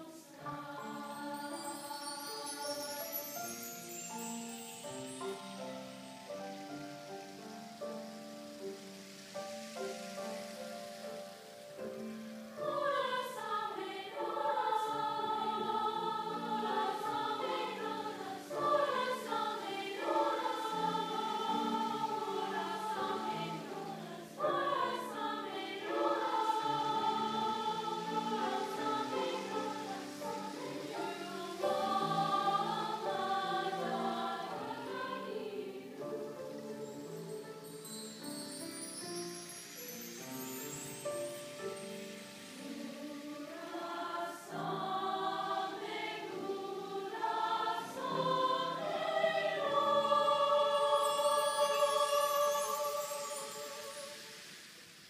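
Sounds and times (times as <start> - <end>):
choir singing: 0.0 - 8.0, 11.7 - 38.7, 39.8 - 55.0
grand piano accompaniment: 0.0 - 55.0.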